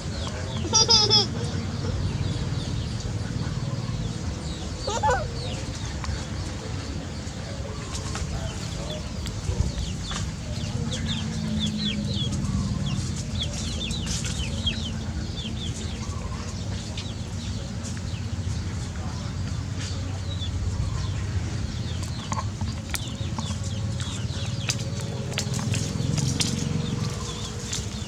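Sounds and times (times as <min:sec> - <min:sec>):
chicks peeping: 0:00.2 - 0:28.0
steady low rumble: 0:01.3 - 0:28.0.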